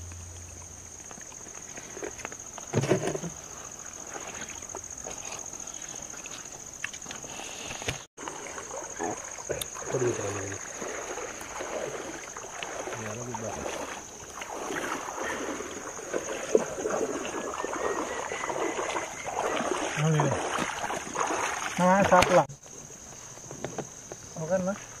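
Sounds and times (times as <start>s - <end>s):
night insects trilling: 0.0s - 25.0s.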